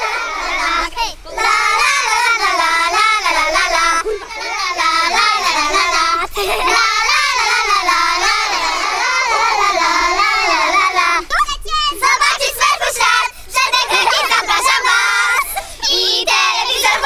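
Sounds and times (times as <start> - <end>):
high-pitched voices singing: 0.0 - 17.0.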